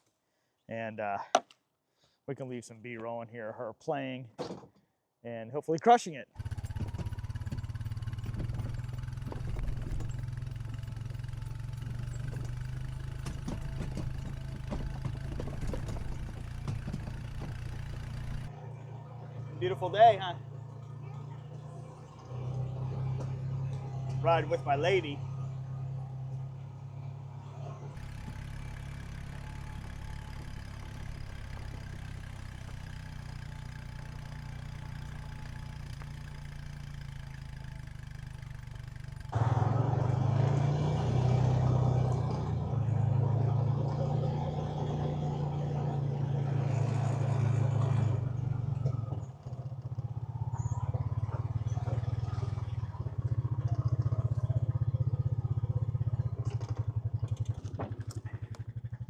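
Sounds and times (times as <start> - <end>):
vehicle engine droning: 6.4 - 59.0.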